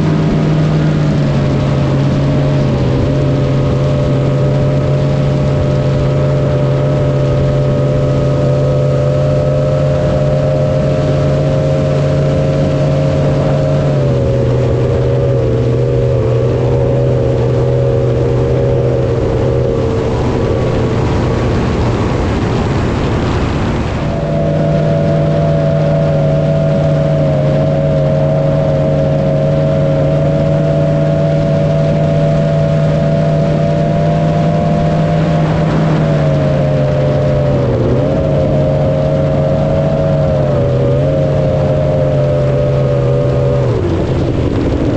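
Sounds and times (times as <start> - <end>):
engine running steadily: 0.0 - 44.9
rushing noise: 0.0 - 44.9.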